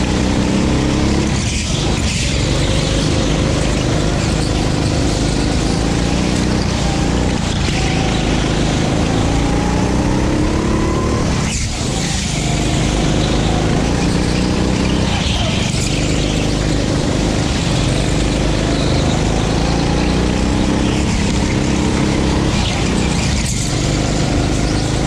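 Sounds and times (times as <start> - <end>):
go-kart engine racing: 0.0 - 25.0.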